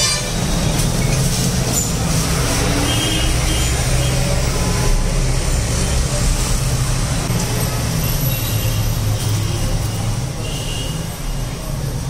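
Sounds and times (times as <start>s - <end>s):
low rumble of street noise: 0.0s - 12.0s.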